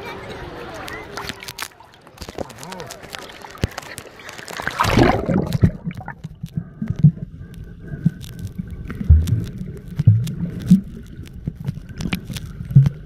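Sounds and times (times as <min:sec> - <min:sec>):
water splashing over microphone: 0:01.1 - 0:13.0.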